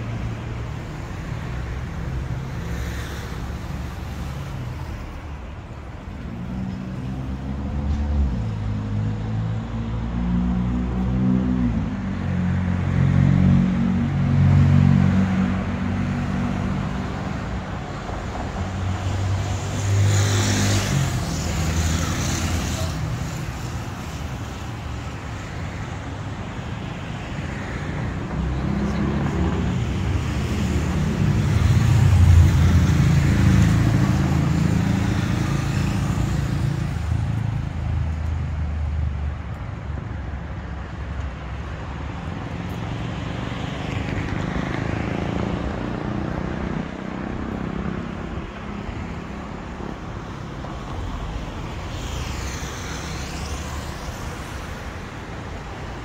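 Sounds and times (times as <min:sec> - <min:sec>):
cars passing: 0:00.0 - 0:56.0
engine hum and tyre hiss: 0:00.0 - 0:56.0.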